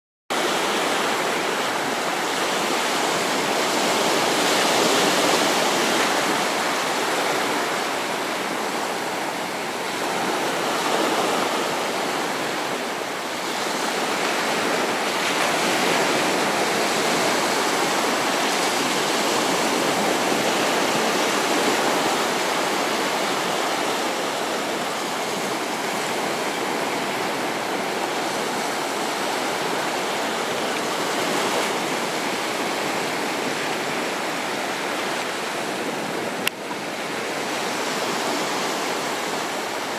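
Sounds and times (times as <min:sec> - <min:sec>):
sea surf washing on shore: 0:00.3 - 0:39.9.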